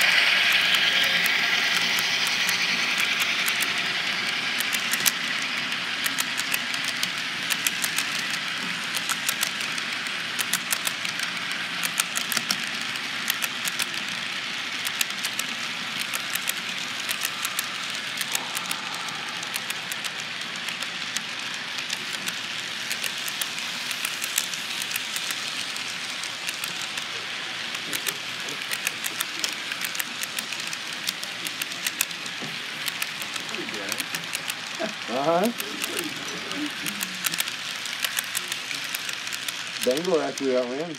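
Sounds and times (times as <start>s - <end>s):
rapid light clicks: 0.0s - 14.2s, 14.8s - 34.9s, 36.8s - 40.6s
model train wheels rolling: 0.0s - 40.9s.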